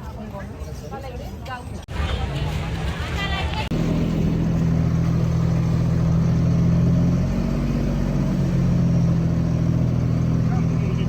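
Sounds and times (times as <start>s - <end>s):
engine running steadily: 1.9s - 11.0s.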